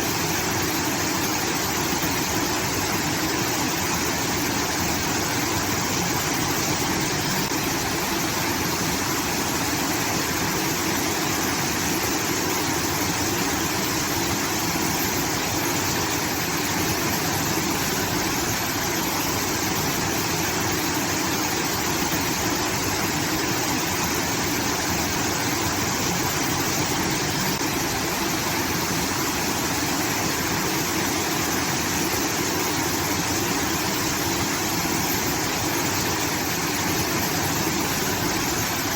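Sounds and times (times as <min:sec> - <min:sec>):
water pouring and rushing: 0:00.0 - 0:38.9.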